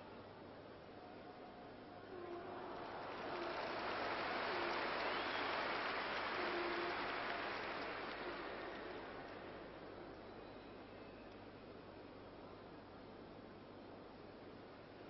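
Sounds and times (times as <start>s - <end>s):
stadium crowd noise: 0.0s - 12.7s.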